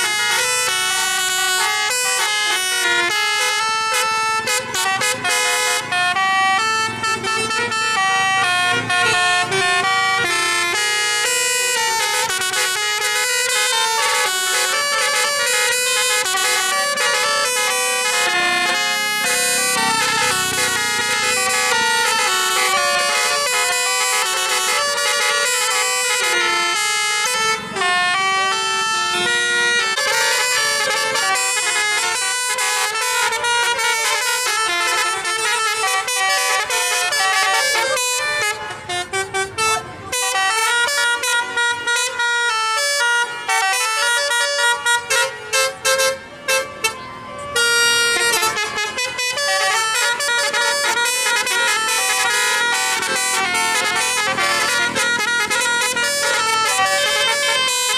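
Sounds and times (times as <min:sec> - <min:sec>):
musical air horn playing a tune: 0:00.0 - 0:57.9.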